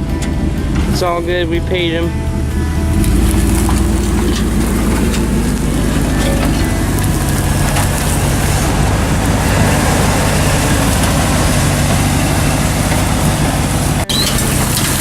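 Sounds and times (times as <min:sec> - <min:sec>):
rush of driving noise: 0:00.0 - 0:15.0
vehicle engine running: 0:00.0 - 0:15.0.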